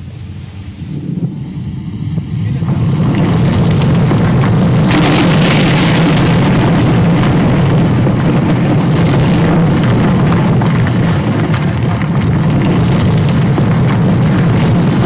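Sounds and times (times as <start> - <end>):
deep rumble through speakers: 0.0 - 15.0.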